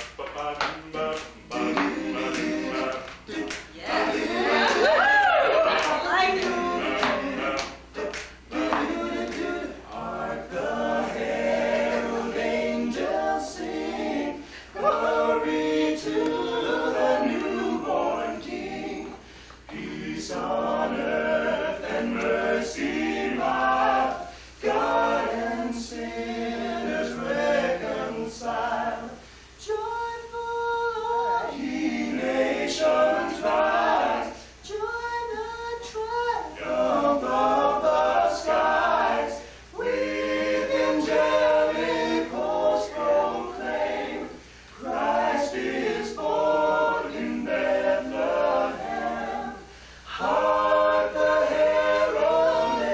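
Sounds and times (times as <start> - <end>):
men singing a cappella in harmony: 0.0 - 52.9.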